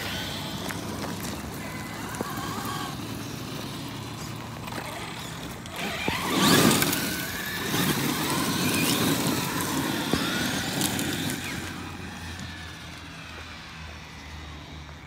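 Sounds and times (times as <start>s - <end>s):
electric motor whine: 0.0s - 15.0s
tyres crunching gravel: 0.0s - 15.0s.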